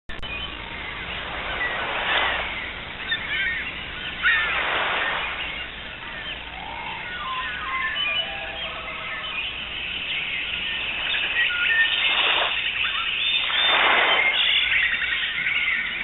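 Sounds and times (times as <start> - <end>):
small birds chirping: 0.1 - 16.0
rushing noise: 0.6 - 14.9.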